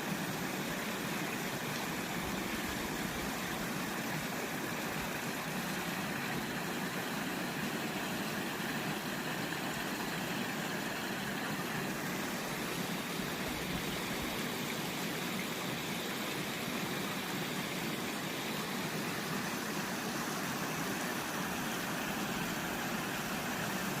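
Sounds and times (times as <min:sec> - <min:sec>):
stream flowing over rocks: 0:00.0 - 0:24.0.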